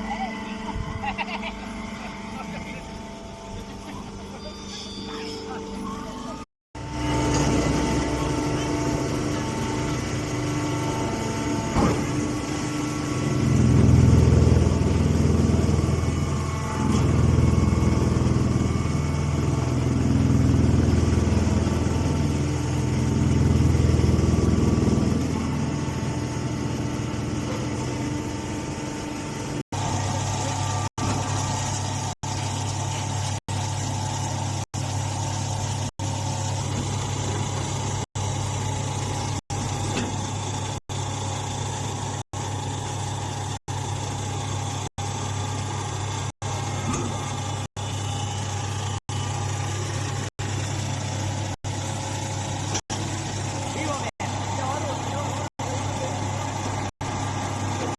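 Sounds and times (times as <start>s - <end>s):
baling machine motor hum: 0.0s - 57.9s.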